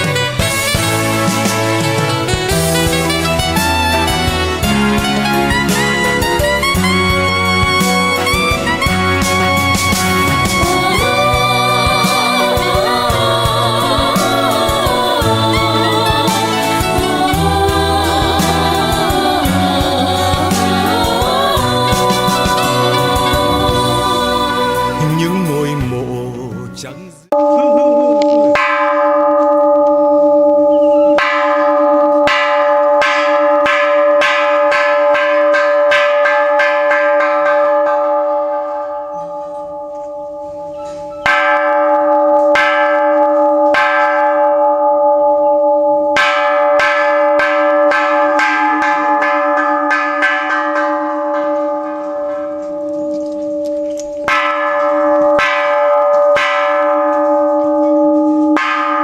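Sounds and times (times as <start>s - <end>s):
bell ringing: 0.0s - 26.1s, 26.8s - 59.0s.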